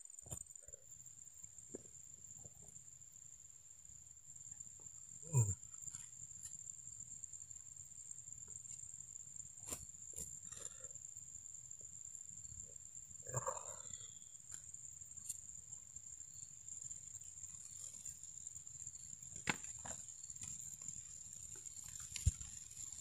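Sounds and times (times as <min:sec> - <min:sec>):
high-pitched insect whine: 0:00.0 - 0:23.0.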